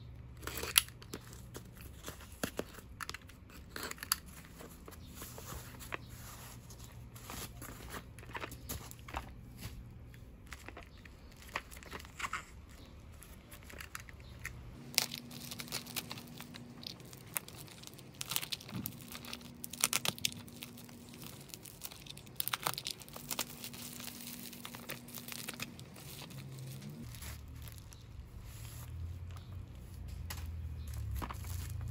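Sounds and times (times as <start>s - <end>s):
bubble wrap crackling: 0.2s - 31.9s.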